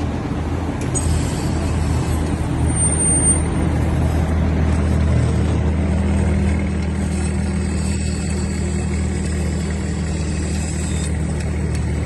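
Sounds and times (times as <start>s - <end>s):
low engine hum: 0.0s - 12.0s
thin high whine: 0.9s - 12.0s.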